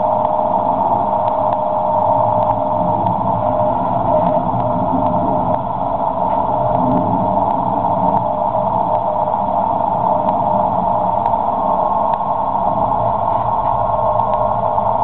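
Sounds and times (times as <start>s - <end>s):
faint static clicks: 0.0s - 15.0s
radio band noise hiss: 0.0s - 15.0s.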